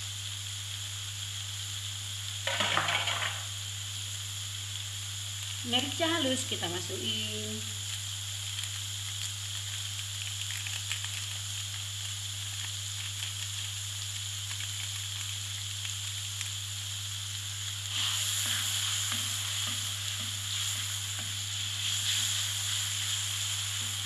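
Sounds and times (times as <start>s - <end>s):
constant low hum: 0.0s - 24.0s
spice paste sizzling in oil: 0.0s - 24.0s.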